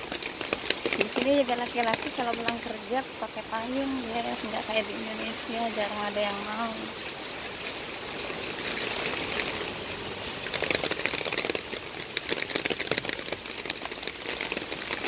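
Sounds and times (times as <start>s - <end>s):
heavy rain on paving: 0.0s - 15.0s
rain drops splashing: 0.0s - 15.0s.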